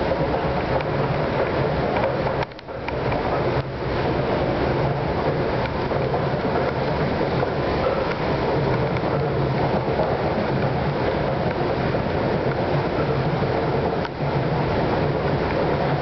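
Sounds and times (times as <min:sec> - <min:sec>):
moving walkway rumbling: 0:00.0 - 0:16.0.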